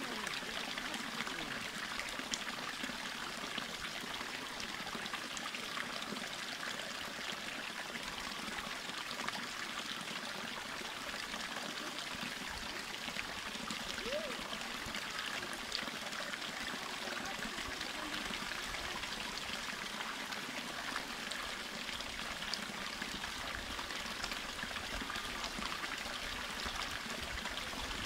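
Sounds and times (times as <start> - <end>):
spring water trickling over rocks: 0.0 - 28.0.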